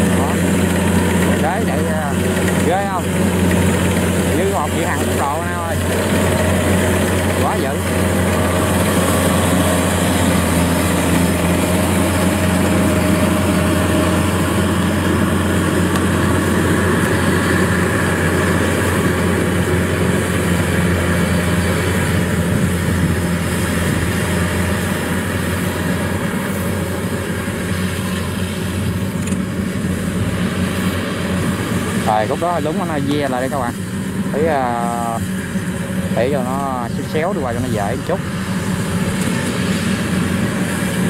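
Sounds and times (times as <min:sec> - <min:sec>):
combine harvester engine drone: 0:00.0 - 0:41.0.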